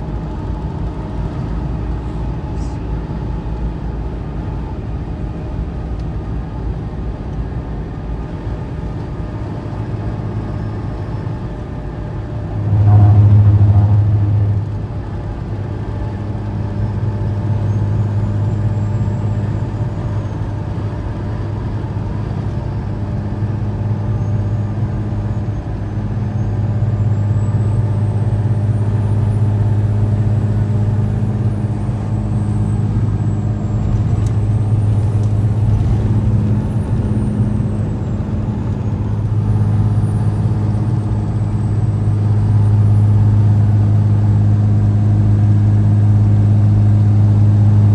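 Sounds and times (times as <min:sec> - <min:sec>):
diesel truck droning at speed: 0:00.0 - 0:47.9.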